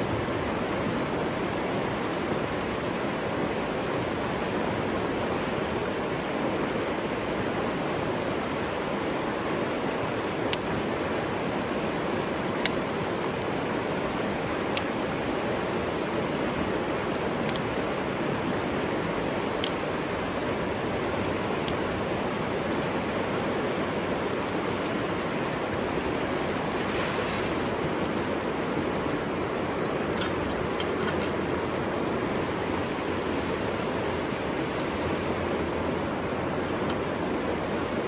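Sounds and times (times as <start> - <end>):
river flowing: 0.0 - 38.0.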